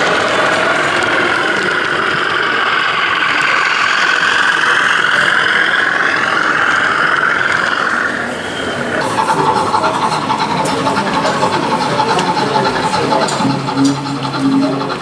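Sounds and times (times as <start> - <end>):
model train whine with gear noise: 0.0 - 15.0.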